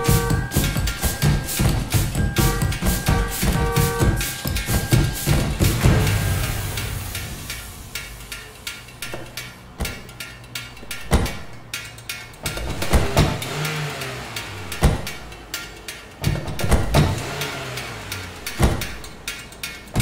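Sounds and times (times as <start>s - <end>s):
hands and tools striking plastic buckets: 0.0s - 11.8s, 12.4s - 20.0s.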